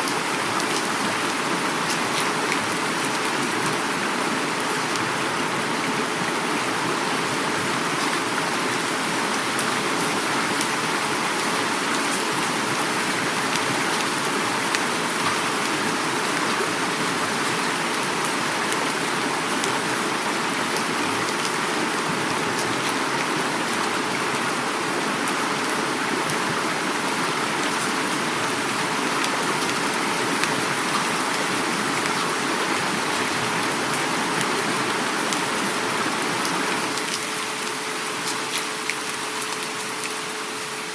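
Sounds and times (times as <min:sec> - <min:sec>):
flowing river: 0:00.0 - 0:40.9
heavy rain: 0:00.0 - 0:40.9.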